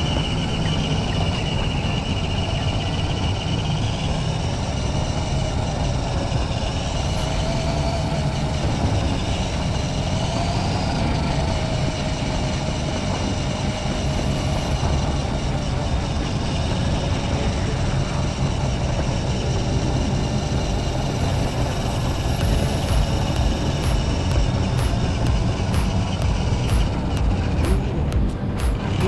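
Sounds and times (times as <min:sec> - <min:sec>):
steady rumble: 0:00.0 - 0:29.0
toy truck motor whining: 0:00.0 - 0:29.0.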